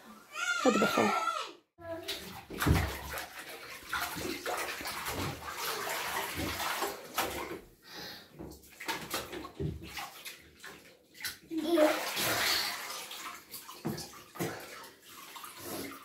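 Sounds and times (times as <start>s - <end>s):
bathtub water splashing: 0.0s - 16.0s.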